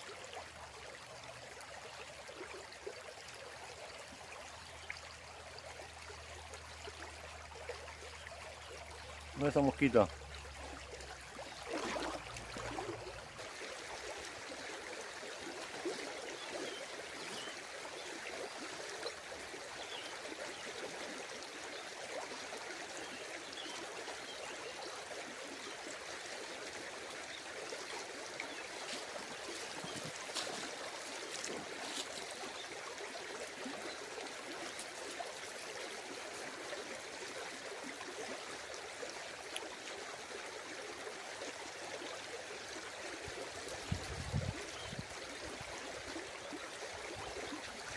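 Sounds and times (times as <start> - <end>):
flowing water: 0.0 - 47.9.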